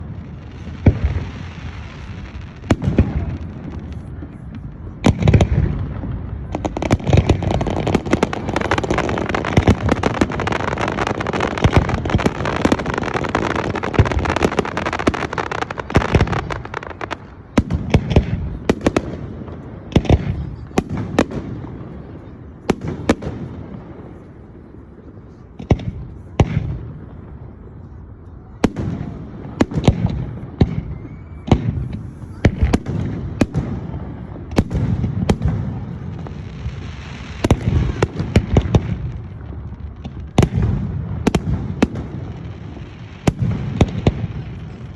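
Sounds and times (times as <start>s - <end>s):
fireworks bangs and crackle: 0.0s - 44.9s.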